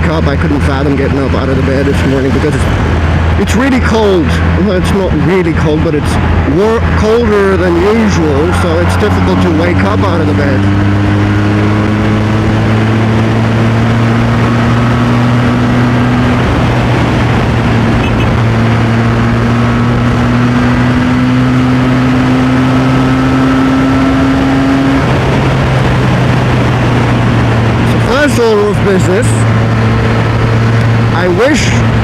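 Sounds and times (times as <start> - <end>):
motorcycle engine running: 0.0 - 32.0
wind noise: 1.1 - 32.0.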